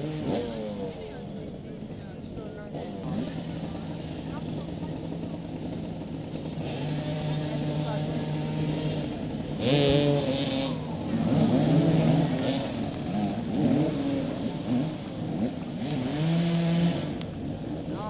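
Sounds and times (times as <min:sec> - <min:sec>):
motorcycles revving: 0:00.0 - 0:18.0.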